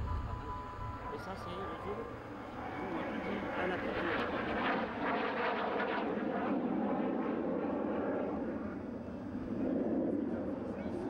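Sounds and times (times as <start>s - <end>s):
jet flying overhead: 0.0s - 11.0s.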